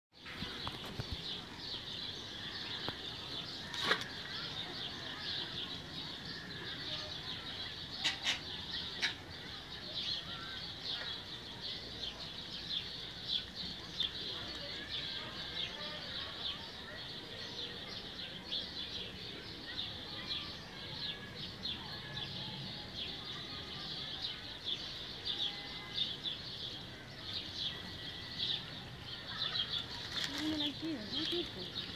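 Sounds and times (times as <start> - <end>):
small birds chirping: 0.2 - 31.9.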